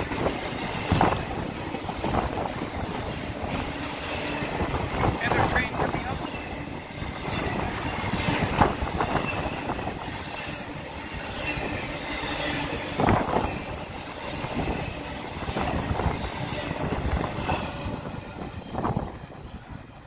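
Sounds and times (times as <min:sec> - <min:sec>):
train cars clanking: 0:00.0 - 0:19.9
train wheels rumbling on rail: 0:00.0 - 0:20.0.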